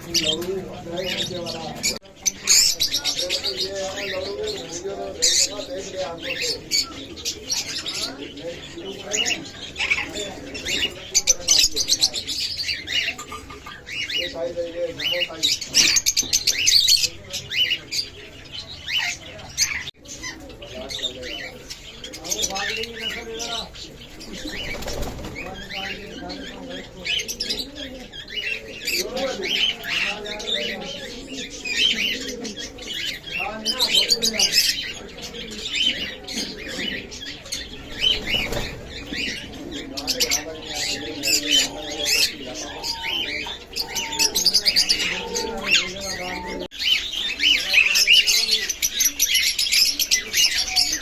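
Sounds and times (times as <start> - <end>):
pet birds chirping and squawking: 0.0 - 51.0.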